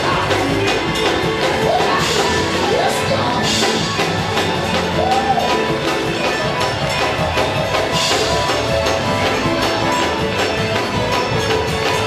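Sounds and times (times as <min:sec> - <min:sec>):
up-tempo music with percussion beat: 0:00.0 - 0:12.0.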